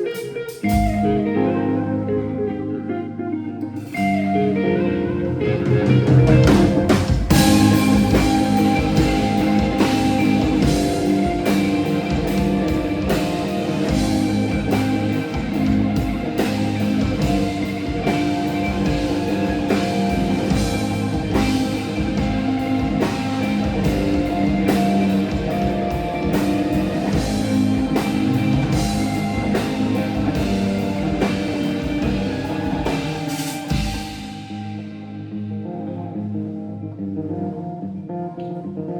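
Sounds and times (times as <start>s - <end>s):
rock music: 0.0s - 38.9s.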